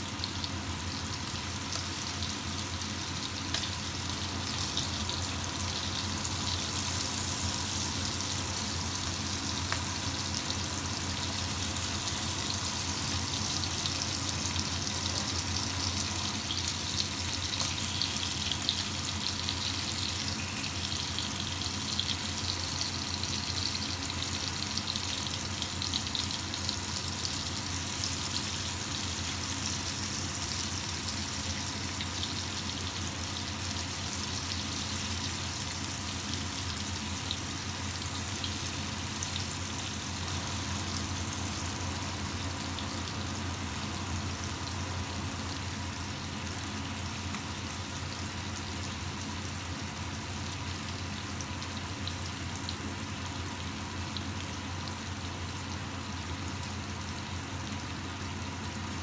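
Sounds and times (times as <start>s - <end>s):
chicken sizzling in oil: 0.0s - 59.0s
constant low hum: 0.0s - 59.0s.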